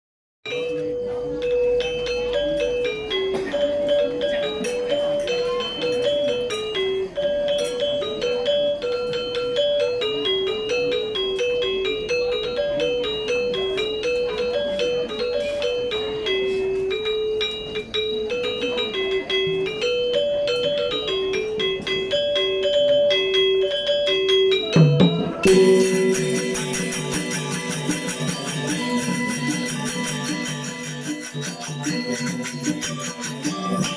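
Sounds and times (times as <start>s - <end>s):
gamelan ensemble playing: 0.5s - 33.9s.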